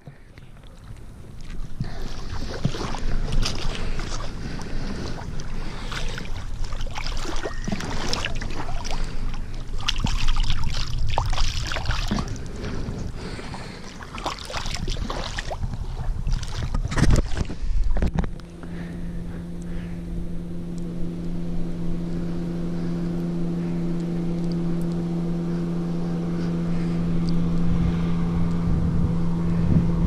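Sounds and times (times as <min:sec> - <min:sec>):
water splashing and sloshing: 0:00.0 - 0:20.0, 0:20.8 - 0:30.0
wind rumble on microphone: 0:00.0 - 0:30.0.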